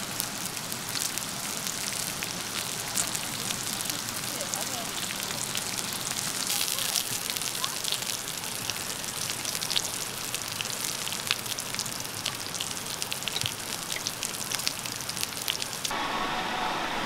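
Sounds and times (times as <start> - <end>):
pork sizzling on griddle: 0.0 - 16.3.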